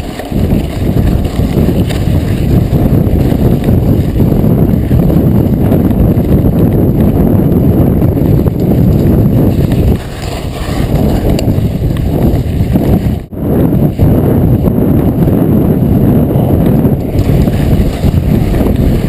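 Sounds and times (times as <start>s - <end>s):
bike rattling: 0.0s - 19.0s
tyre rumble: 0.0s - 19.0s
wind buffeting microphone: 0.0s - 19.0s.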